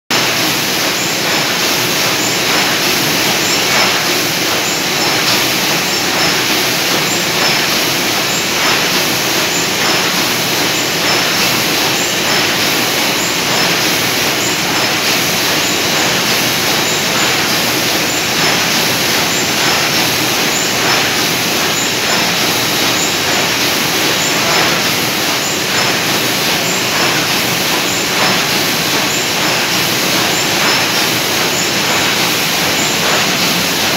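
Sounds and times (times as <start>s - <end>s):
printing press running: 0.1s - 33.9s.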